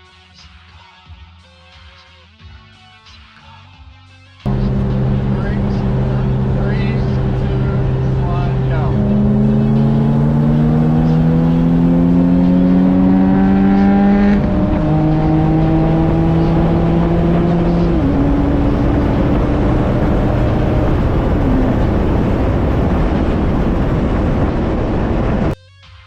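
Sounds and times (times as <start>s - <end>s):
car engine accelerating: 4.5s - 25.6s
road and wind noise: 4.5s - 25.6s.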